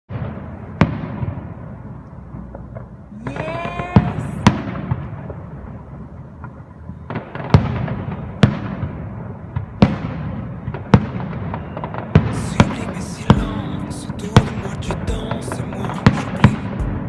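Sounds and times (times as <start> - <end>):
fireworks bangs with rumbling echo: 0.1 - 17.0.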